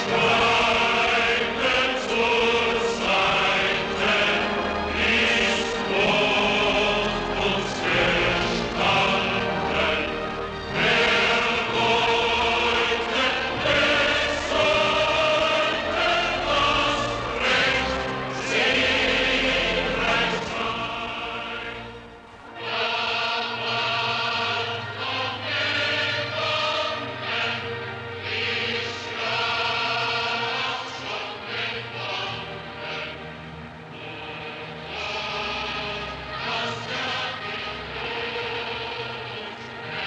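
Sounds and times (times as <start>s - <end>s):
choir singing sustained chords: 0.0s - 40.0s
film score music: 0.0s - 40.0s.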